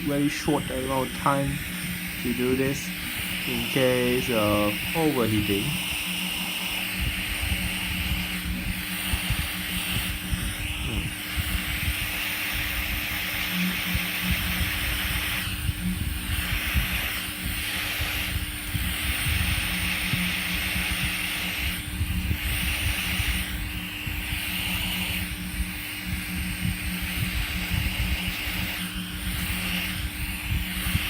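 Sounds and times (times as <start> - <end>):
heat gun blowing hot air: 0.0 - 31.0.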